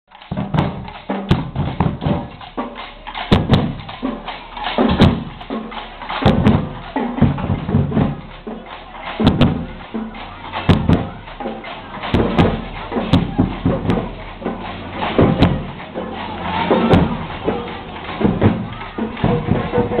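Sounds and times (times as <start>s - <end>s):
snare drums rattling: 0.1s - 20.0s.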